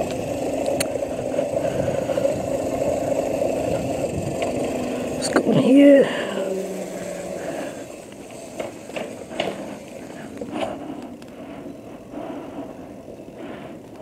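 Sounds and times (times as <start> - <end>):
electric motor humming: 0.0 - 11.3
tyres rolling on pavement: 0.0 - 14.0.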